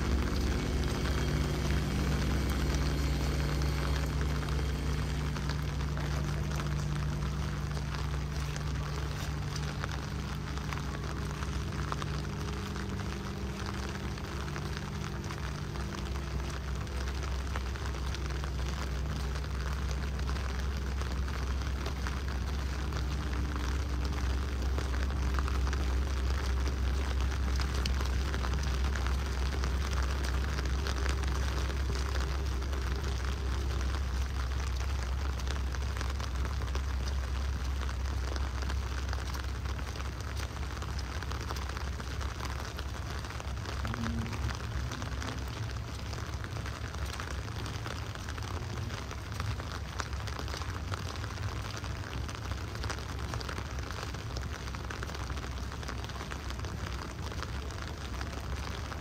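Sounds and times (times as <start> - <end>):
heavy rain on hard surfaces: 0.0 - 59.0
low mechanical hum: 0.0 - 59.0.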